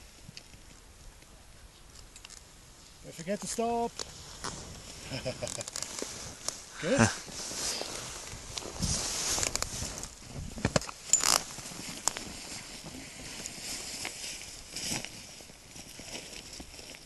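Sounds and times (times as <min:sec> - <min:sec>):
wind hiss on microphone: 0:00.0 - 0:17.0.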